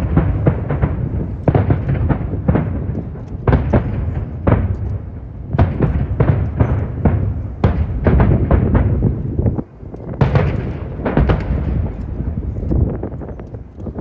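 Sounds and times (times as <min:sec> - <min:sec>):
fireworks bursting: 0:00.0 - 0:14.0
low rumble of booms: 0:00.0 - 0:14.0.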